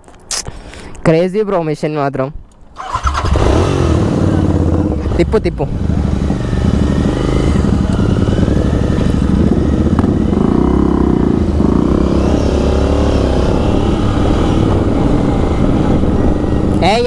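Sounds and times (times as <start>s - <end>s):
motorcycle engine accelerating: 2.8s - 17.0s.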